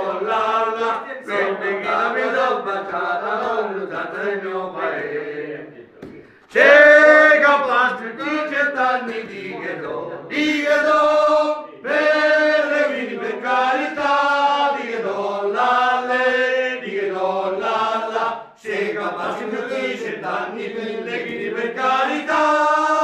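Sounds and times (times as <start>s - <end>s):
men singing together: 0.0s - 23.0s.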